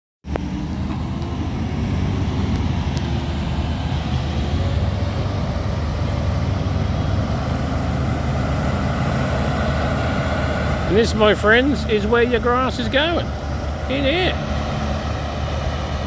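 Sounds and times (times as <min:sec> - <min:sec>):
diesel engine droning: 0:00.2 - 0:16.0.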